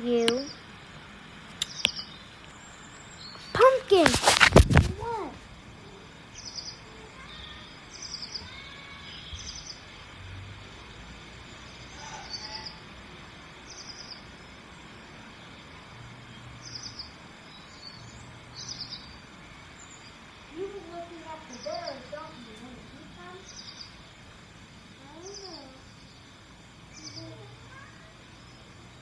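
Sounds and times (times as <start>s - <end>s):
quiet outdoor background noise: 0.0s - 29.0s.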